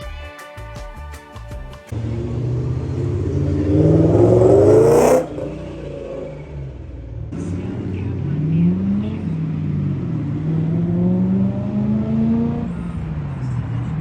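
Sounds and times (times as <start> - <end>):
car engine accelerating: 1.9 - 14.0.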